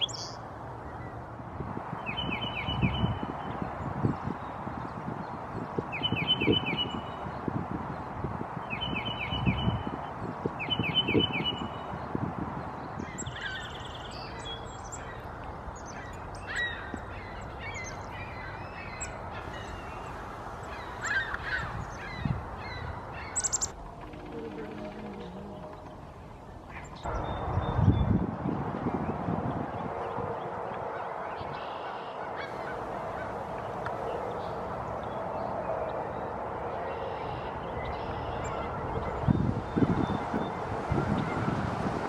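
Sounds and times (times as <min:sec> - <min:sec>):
wild birds calling: 0:00.0 - 0:01.2, 0:02.0 - 0:27.2, 0:30.3 - 0:41.5.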